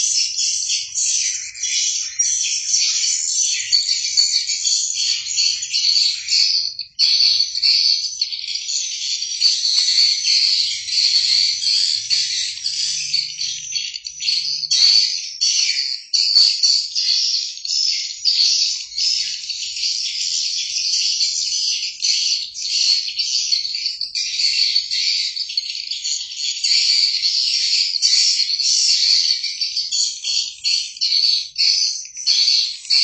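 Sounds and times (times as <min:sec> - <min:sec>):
small birds chirping and trilling: 0:00.0 - 0:33.0.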